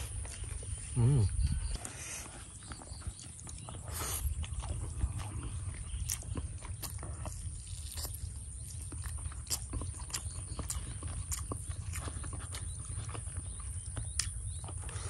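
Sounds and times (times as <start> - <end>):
steady low rumble: 0.0 - 15.0
wet chewing and mouth smacks: 0.0 - 15.0.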